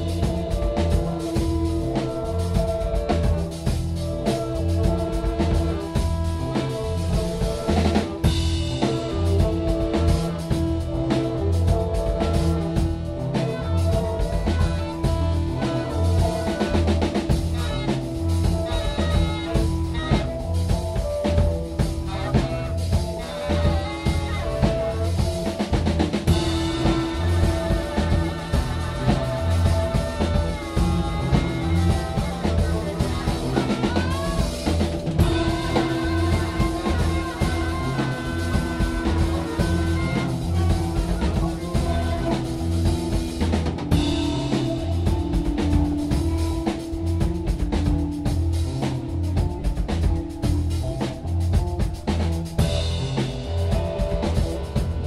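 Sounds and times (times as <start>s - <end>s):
jazz-rock band playing: 0.0s - 55.0s
steady drum beat: 0.0s - 55.0s.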